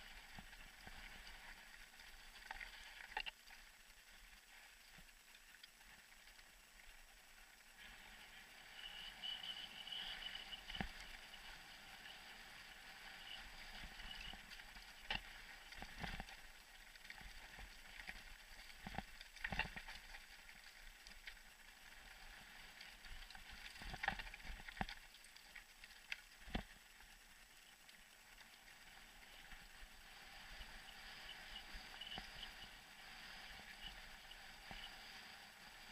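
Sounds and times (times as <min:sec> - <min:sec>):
bike tyres on dirt trail: 0:04.7 - 0:35.9.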